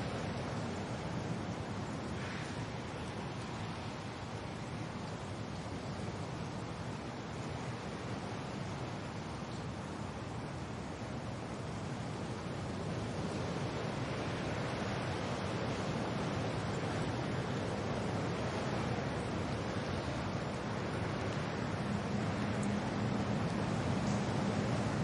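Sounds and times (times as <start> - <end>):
rain: 0.0 - 25.0
wind: 0.0 - 25.0.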